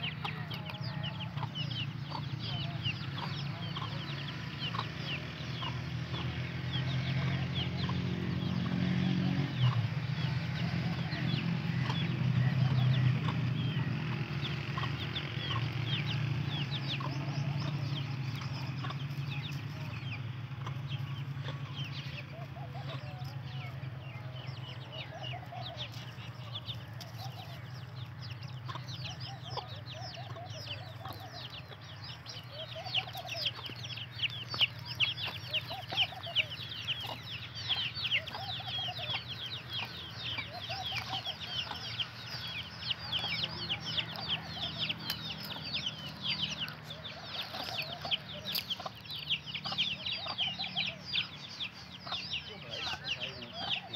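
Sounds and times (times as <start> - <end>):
chicken clucking softly: 0.0 - 6.4, 16.6 - 53.9
chicks peeping: 0.0 - 53.9.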